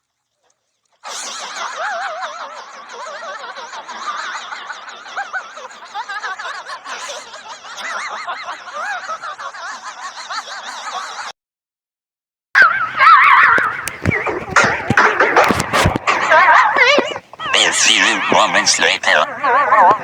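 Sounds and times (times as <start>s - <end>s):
crowd laughing: 1.0s - 11.3s, 12.6s - 20.0s.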